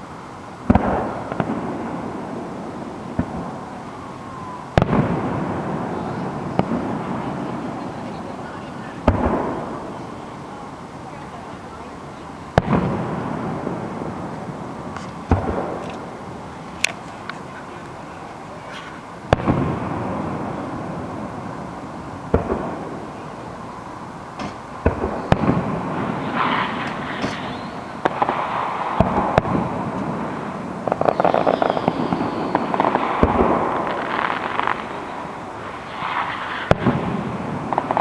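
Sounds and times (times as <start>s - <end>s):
fireworks booming: 0.0s - 38.0s
fireworks crackling: 0.0s - 38.0s.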